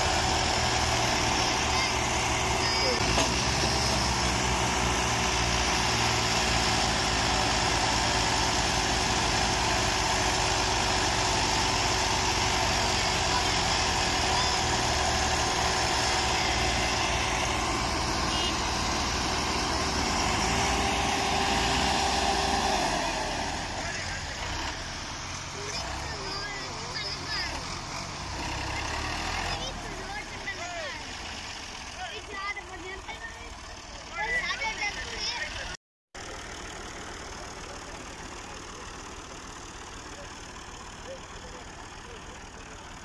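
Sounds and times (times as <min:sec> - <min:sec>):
diesel tractor engines under load: 0:00.0 - 0:43.0.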